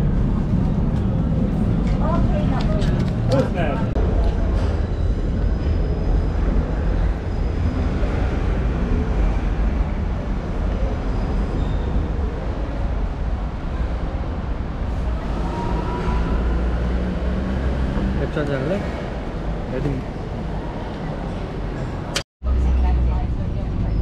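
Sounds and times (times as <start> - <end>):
moving train rumbling: 0.0 - 24.0.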